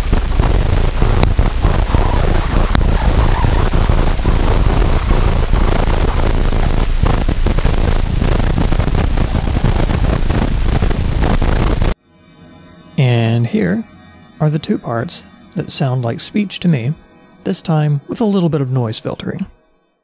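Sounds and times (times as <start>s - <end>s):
static-like hiss and rumble: 0.0s - 19.8s.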